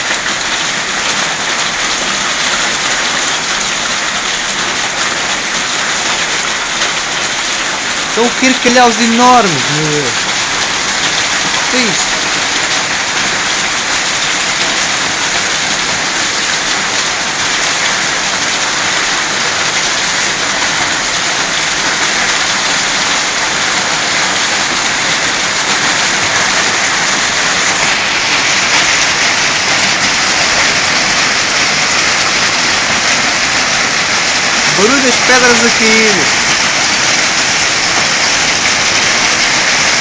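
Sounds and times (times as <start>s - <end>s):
hailstones pelting the ground: 0.0s - 40.0s.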